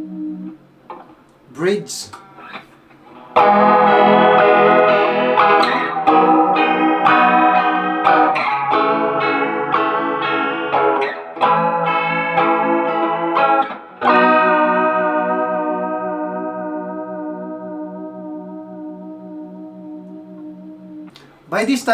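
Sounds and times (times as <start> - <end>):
electric guitar strumming chords: 0.0 - 21.9.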